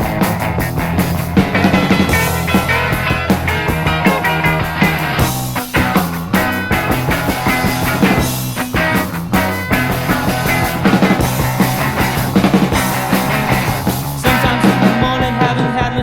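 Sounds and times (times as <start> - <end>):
rock band instrumental: 0.0 - 16.0.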